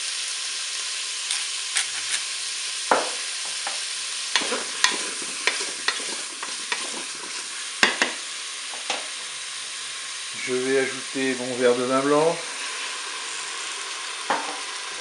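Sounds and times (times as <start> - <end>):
food sizzling in butter: 0.0 - 15.0.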